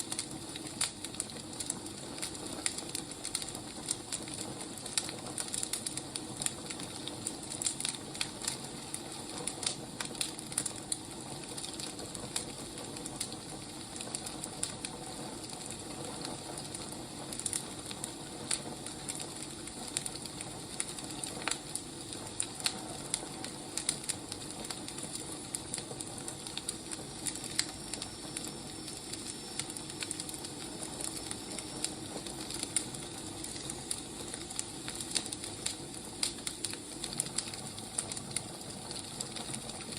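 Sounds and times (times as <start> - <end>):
logs crackling and popping: 0.0 - 39.9
wood fire hissing: 0.0 - 39.9.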